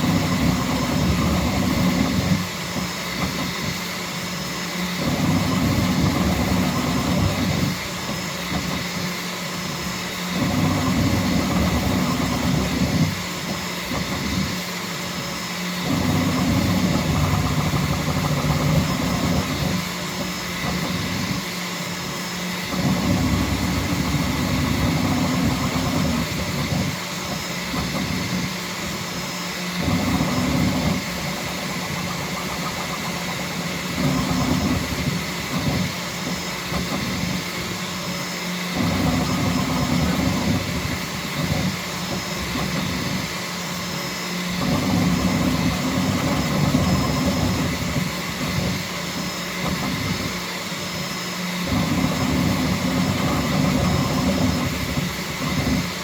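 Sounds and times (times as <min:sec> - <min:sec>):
printer motors humming and whirring: 0:00.0 - 0:56.0.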